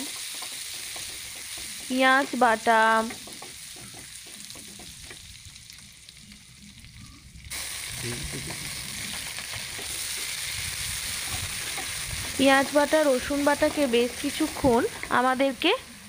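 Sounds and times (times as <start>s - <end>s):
paste sizzling in hot oil: 0.0s - 6.6s, 7.4s - 16.0s.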